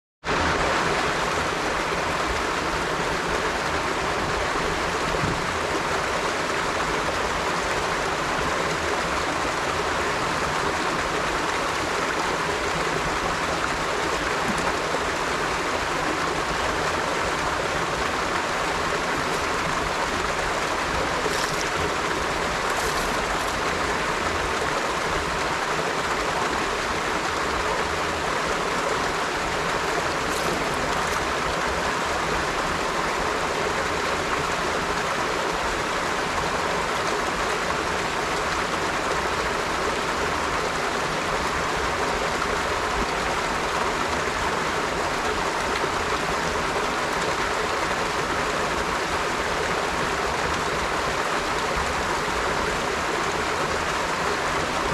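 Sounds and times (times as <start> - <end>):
river water rushing: 0.3 - 54.9.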